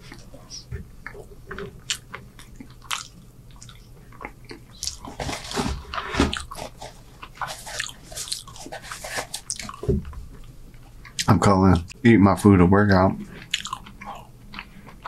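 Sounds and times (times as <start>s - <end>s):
man chewing food: 0.0s - 11.9s, 13.2s - 15.0s.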